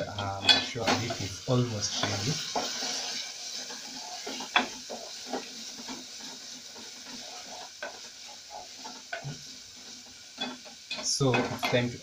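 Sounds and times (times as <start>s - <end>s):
beef sizzling in a pot: 0.0s - 12.0s
wooden spoon scraping a pot: 0.2s - 12.0s.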